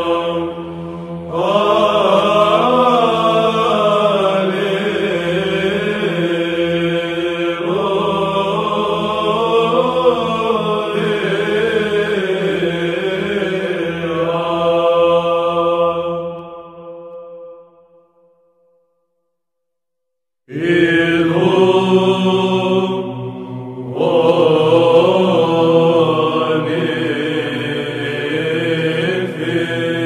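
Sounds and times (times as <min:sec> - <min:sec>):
choir chanting: 0:00.0 - 0:18.0, 0:20.5 - 0:30.0.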